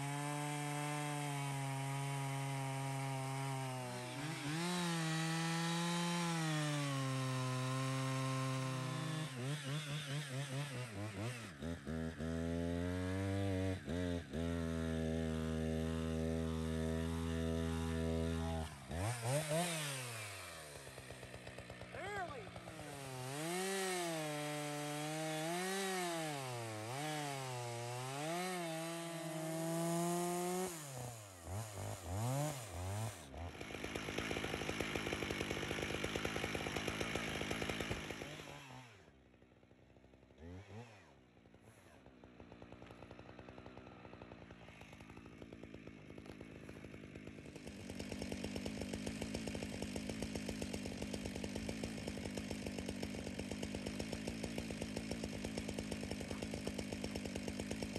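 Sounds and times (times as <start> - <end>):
chainsaw cutting through wood: 0.0 - 57.9.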